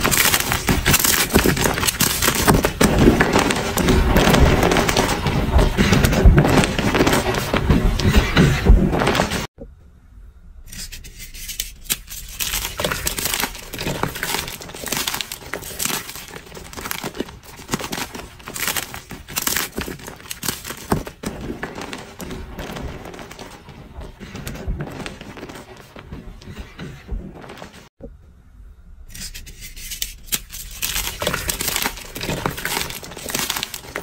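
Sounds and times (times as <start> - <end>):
chalk crunching and crackling: 0.0 - 9.5, 10.7 - 27.8, 29.1 - 34.0.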